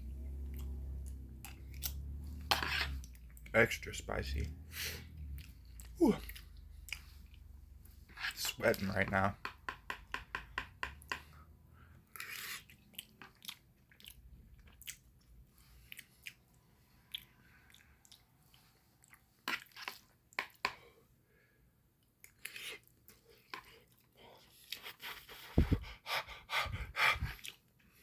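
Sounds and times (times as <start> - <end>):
person chewing food: 0.0 - 3.5, 4.4 - 8.4, 9.4 - 21.1, 22.0 - 25.8, 27.2 - 28.0.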